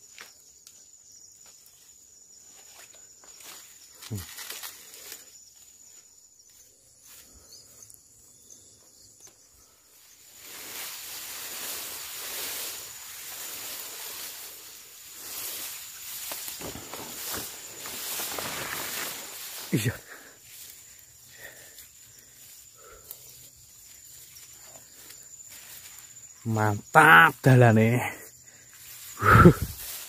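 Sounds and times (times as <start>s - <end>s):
footsteps on forest path: 0.0s - 26.9s, 28.0s - 30.0s
high insect drone: 0.0s - 30.0s.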